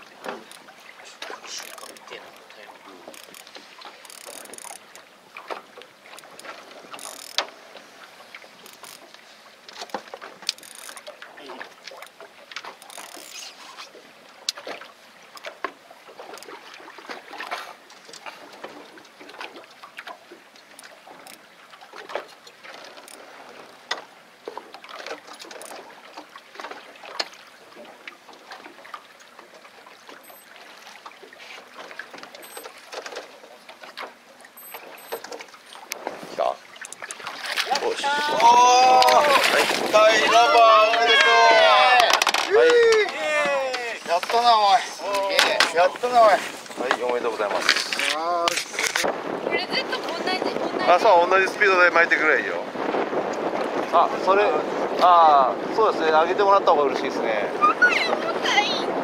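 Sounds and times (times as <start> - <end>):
waves lapping against hull: 0.0 - 59.0.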